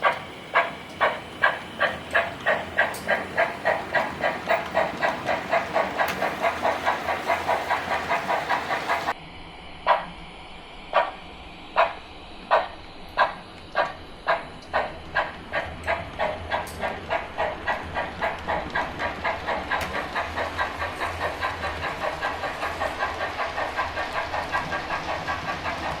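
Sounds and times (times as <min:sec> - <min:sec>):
steam locomotive exhaust chuffs: 0:00.0 - 0:26.0.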